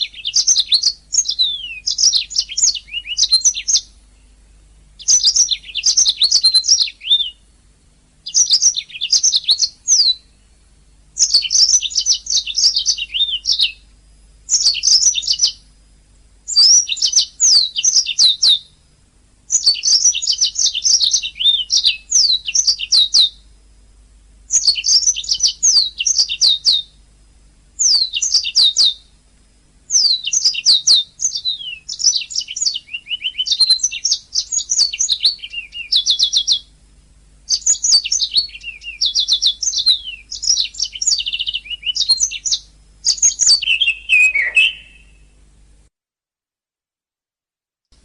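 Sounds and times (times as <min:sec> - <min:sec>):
canary singing trills: 0:00.0 - 0:07.6, 0:08.2 - 0:15.8, 0:16.4 - 0:18.9, 0:19.5 - 0:23.5, 0:24.5 - 0:27.0, 0:27.8 - 0:29.2, 0:29.9 - 0:45.5
faint low hum: 0:00.0 - 0:45.9.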